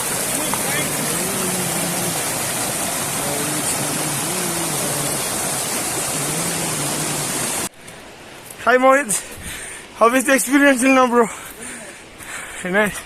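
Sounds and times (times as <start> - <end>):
rushing mountain stream: 0.0 - 13.0.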